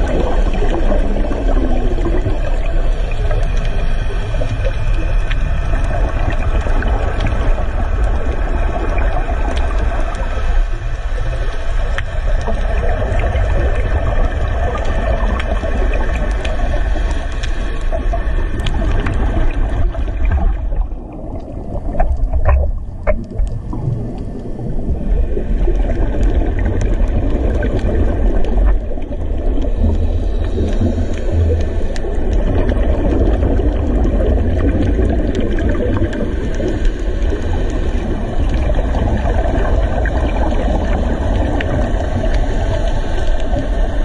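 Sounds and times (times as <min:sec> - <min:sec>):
diver's breath bubbling: 0:00.0 - 0:44.0
low underwater rumble: 0:00.0 - 0:44.0.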